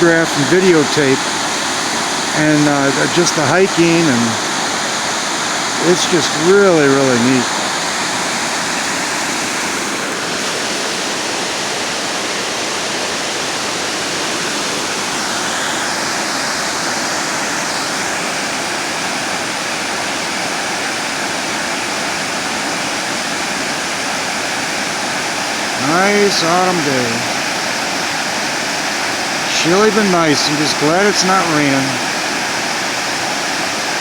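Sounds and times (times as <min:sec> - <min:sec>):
water rushing over a dam: 0:00.0 - 0:34.0.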